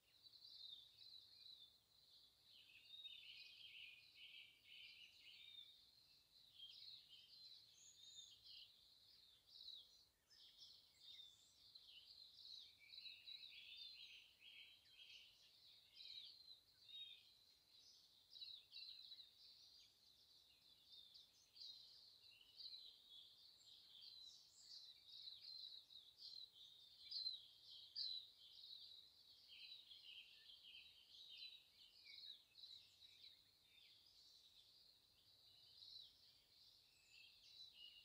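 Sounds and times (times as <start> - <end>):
faint songbirds singing: 0.0 - 38.0.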